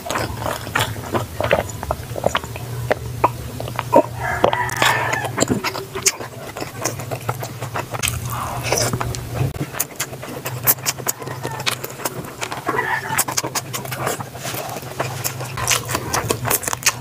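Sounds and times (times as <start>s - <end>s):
person chewing food: 0.0s - 17.0s
steady low hum: 0.0s - 17.0s.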